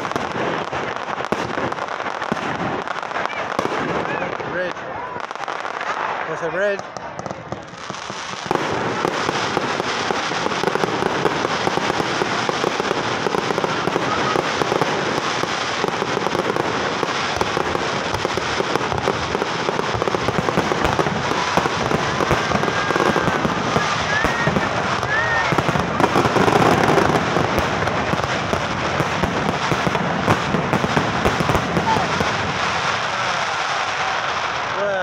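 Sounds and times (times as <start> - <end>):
fireworks crackling: 0.0 - 35.0.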